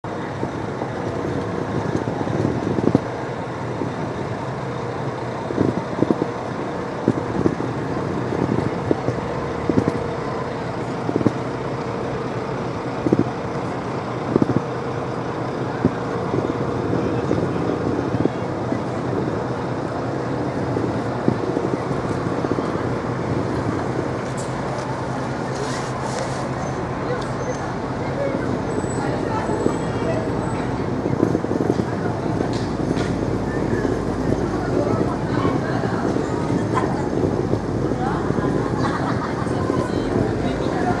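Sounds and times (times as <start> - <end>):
traffic hum: 0.0 - 41.0.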